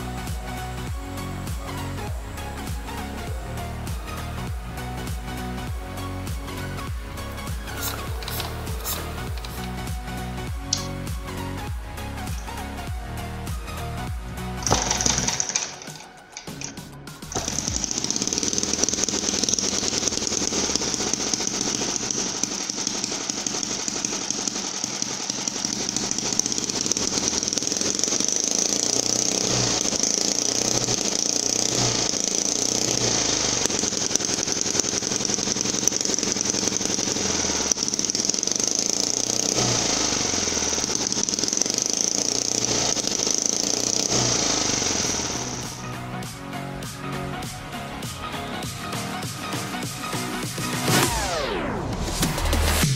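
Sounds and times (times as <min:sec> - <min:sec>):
small engine running: 0:00.0 - 0:52.9.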